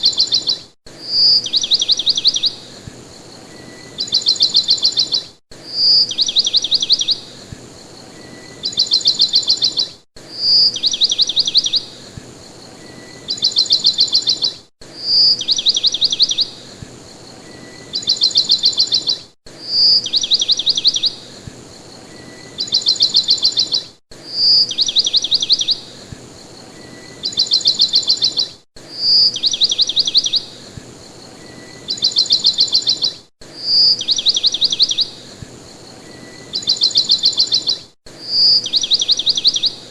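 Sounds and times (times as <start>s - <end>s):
bird chirping and trilling: 0.0s - 2.6s, 3.3s - 12.0s, 12.6s - 21.2s, 22.0s - 26.0s, 26.7s - 35.3s, 36.0s - 39.9s.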